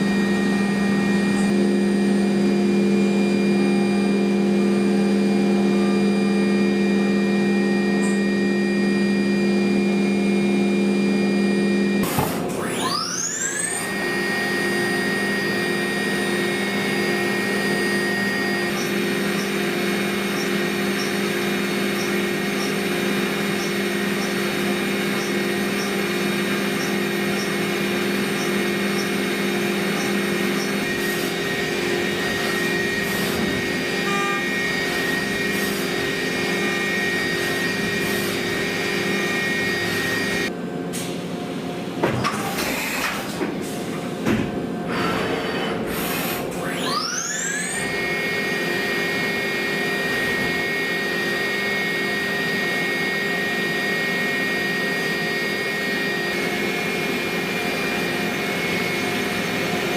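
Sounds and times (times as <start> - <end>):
milling machine whine: 0.0 - 59.9.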